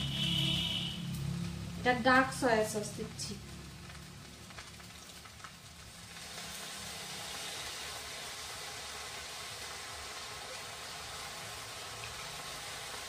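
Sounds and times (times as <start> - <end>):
noodles and vegetables sizzling: 0.0 - 13.0.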